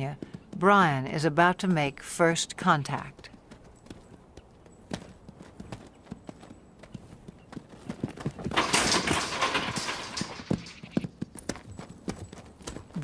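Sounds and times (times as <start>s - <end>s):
horse hoofbeats on dirt: 0.0s - 13.0s.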